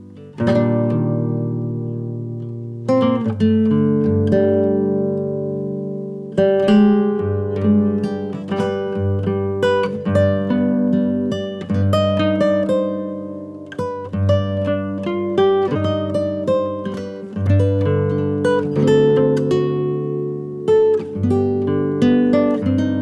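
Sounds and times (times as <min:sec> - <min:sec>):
plucked guitar-like music: 0:00.0 - 0:23.0.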